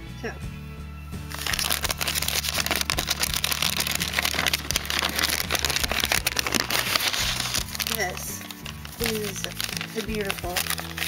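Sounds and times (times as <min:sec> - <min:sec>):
background music: 0:00.0 - 0:11.0
paper crinkling and rustling: 0:01.3 - 0:11.0.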